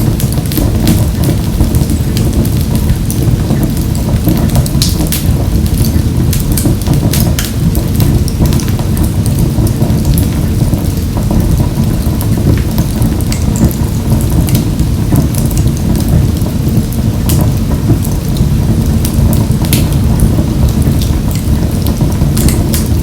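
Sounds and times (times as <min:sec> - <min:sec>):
wood fire burning in stove: 0:00.0 - 0:23.0.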